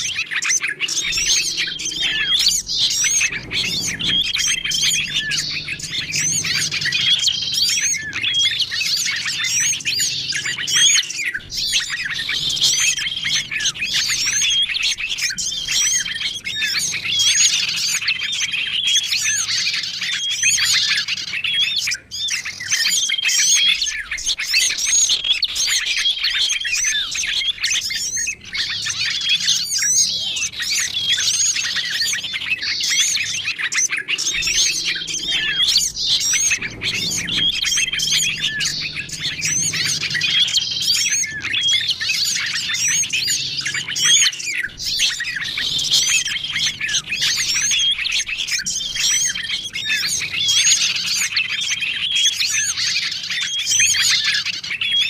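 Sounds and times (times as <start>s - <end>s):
songbirds chirping and twittering: 0.0s - 55.0s.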